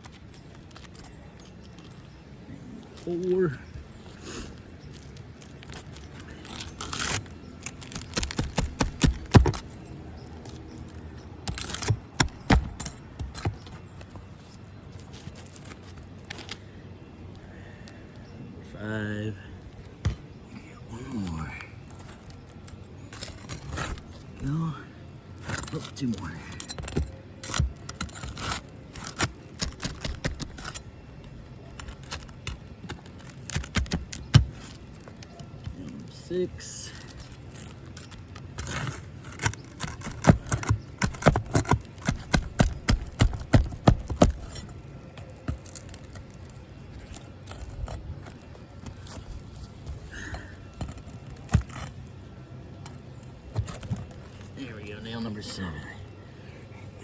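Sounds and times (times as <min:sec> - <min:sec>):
tool prying and scraping shingles: 0:02.8 - 0:16.7, 0:19.9 - 0:56.1.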